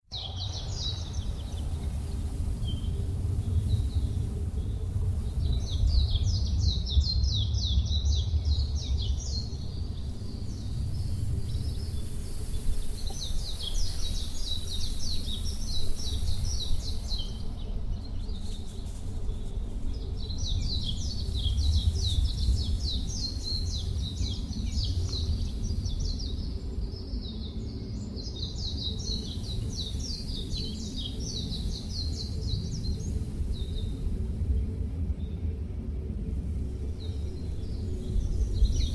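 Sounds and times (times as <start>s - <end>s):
songbirds chirping: 0.1s - 38.9s.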